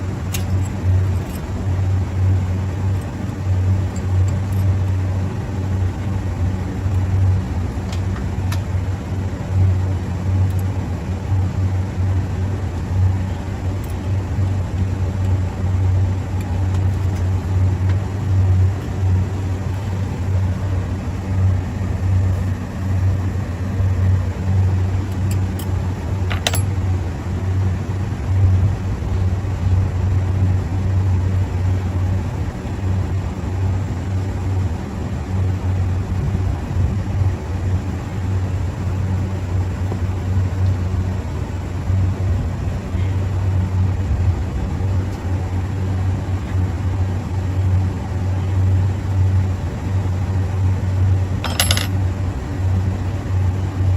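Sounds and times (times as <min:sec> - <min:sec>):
low machine hum: 0:00.0 - 0:53.9.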